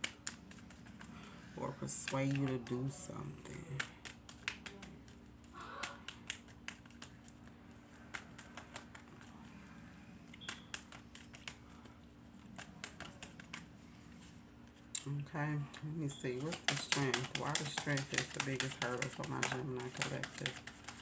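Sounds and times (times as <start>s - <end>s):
cards clicking and tapping: 0.0s - 14.8s, 15.8s - 21.0s
faint steady hum: 0.0s - 21.0s.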